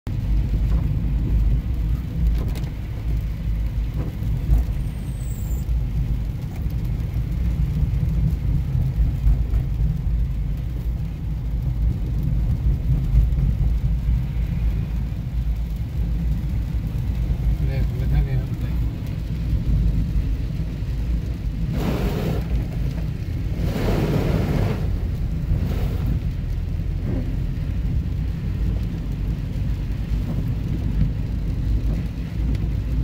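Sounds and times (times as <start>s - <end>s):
car on wet road inside cabin: 0.1s - 33.0s.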